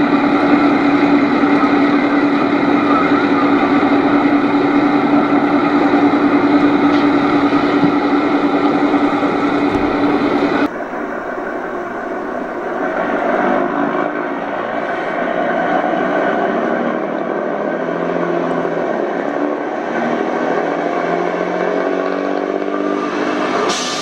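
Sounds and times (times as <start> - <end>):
model train humming: 0.0 - 19.2.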